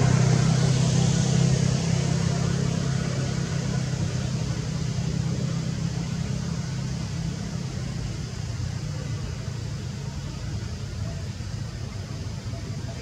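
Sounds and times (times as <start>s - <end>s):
constant hiss: 0.0s - 13.0s
engine running low hum: 0.0s - 13.0s.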